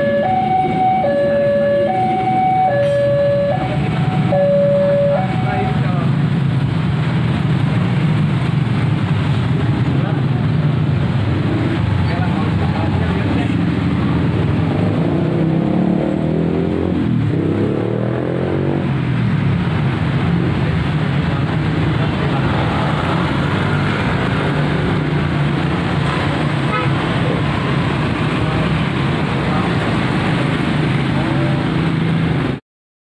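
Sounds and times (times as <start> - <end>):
cars passing: 0.0 - 32.6.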